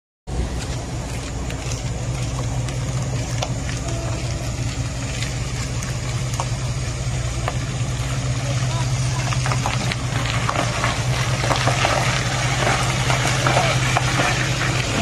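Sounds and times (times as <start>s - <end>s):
diesel truck engine idling: 0.3s - 15.0s.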